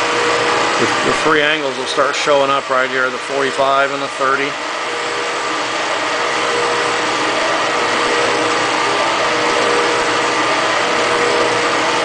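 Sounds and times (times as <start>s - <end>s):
machine whirring: 0.0s - 12.0s.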